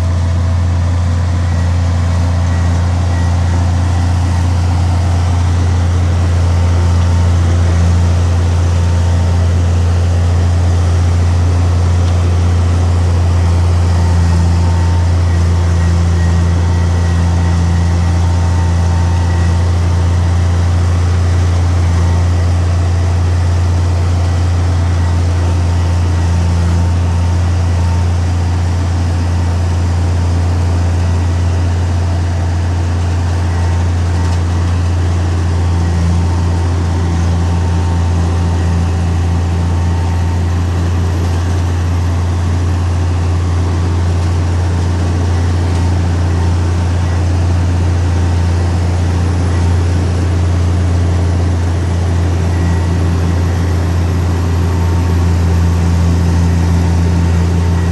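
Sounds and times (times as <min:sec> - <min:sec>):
heavy diesel engine drone: 0:00.0 - 0:57.9.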